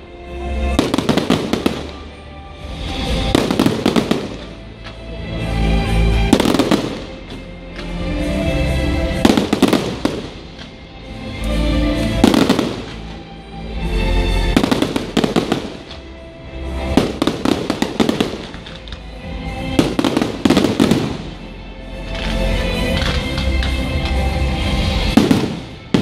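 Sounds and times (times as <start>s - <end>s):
music playing: 0.0s - 26.0s
fireworks crackling and popping: 0.7s - 10.8s, 11.4s - 13.3s, 14.4s - 26.0s.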